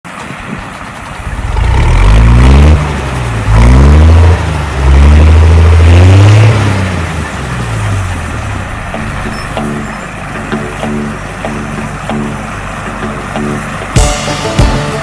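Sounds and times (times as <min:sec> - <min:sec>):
engine revving: 0:01.0 - 0:15.0.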